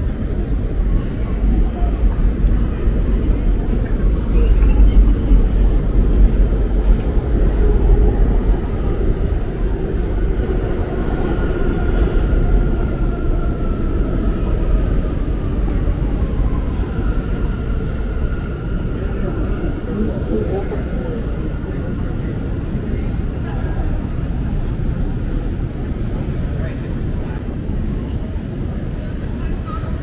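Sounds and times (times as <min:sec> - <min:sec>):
low rumble of city traffic: 0:00.0 - 0:30.0.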